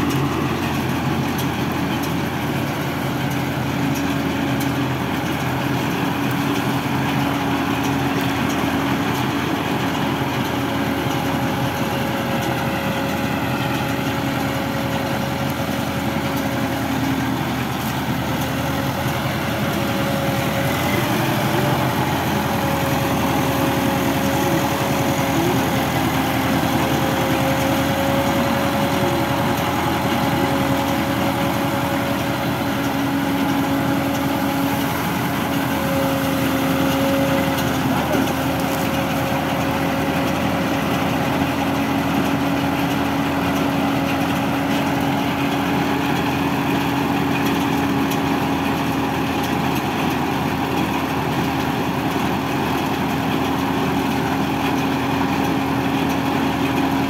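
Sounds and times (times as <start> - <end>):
baler machine hum: 0.0 - 57.0
tractor diesel engine running: 0.0 - 57.0.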